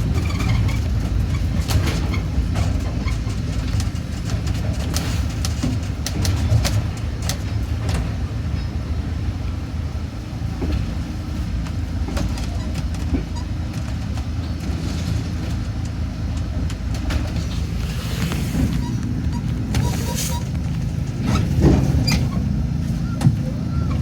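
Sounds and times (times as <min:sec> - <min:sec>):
train clicks and rattles: 0:00.0 - 0:24.0
train rumbling: 0:00.0 - 0:24.0.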